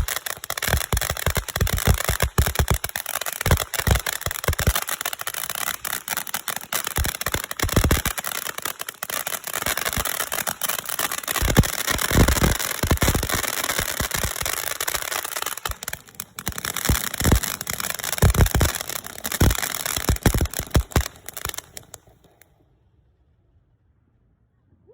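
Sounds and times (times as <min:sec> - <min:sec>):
fireworks crackling and popping: 0:00.0 - 0:22.4
fireworks hiss: 0:00.0 - 0:22.4.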